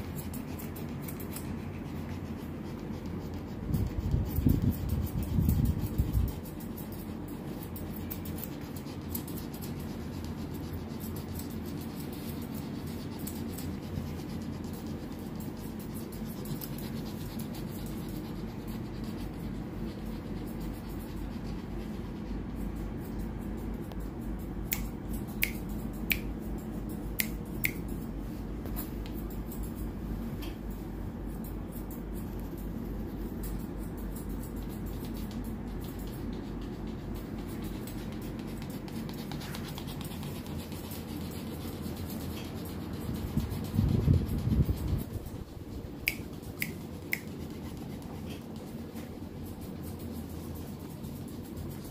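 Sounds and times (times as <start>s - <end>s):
scissors snipping fur: 0.0s - 51.9s
steady low hum: 0.0s - 51.9s.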